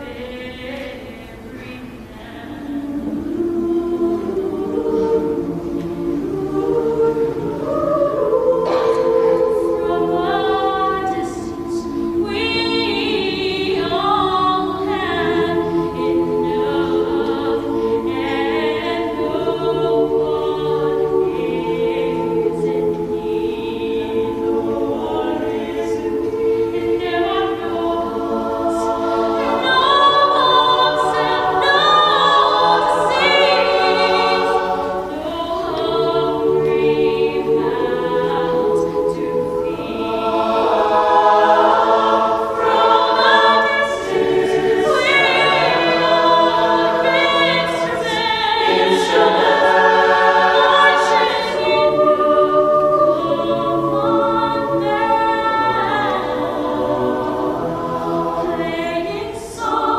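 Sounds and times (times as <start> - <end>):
female soloist singing: 0.0 - 59.9
mixed choir singing: 0.0 - 59.9.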